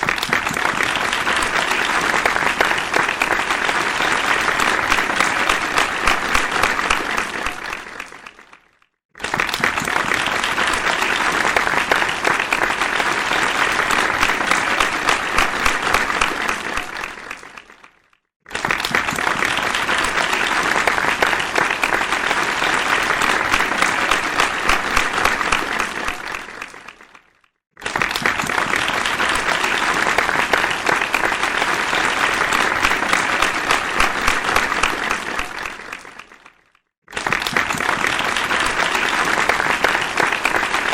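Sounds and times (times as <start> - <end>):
crowd applause: 0.0 - 40.9.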